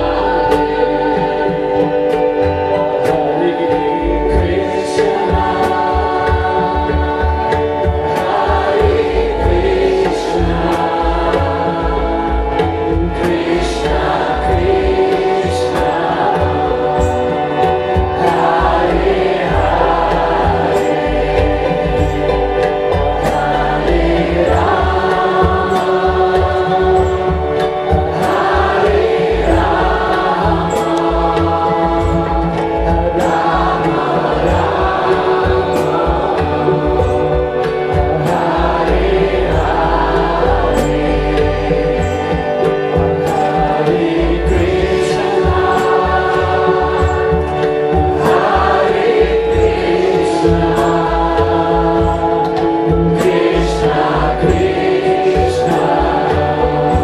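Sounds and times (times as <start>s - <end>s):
many voices chanting: 0.0s - 57.0s
tabla drumming: 0.0s - 57.0s.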